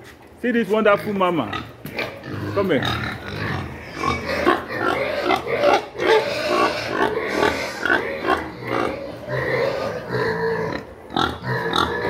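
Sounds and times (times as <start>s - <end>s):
pig grunting: 0.9s - 12.0s.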